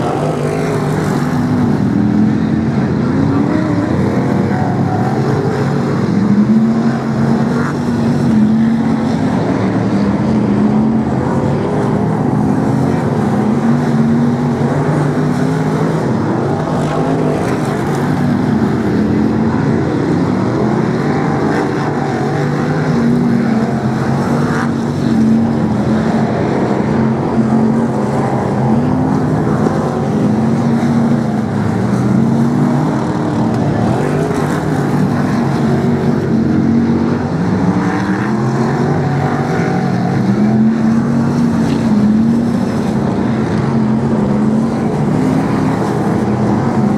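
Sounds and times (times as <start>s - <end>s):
racing car engines: 0.0s - 46.9s.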